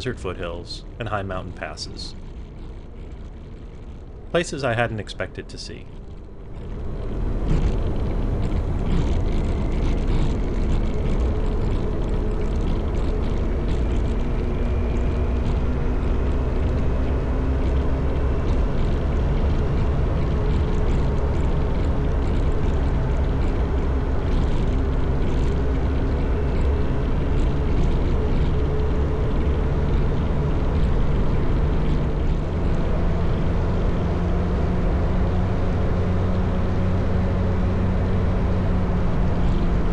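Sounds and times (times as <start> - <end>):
motorcycle engine rumble: 0.0 - 39.9
wind and road noise: 0.0 - 39.9.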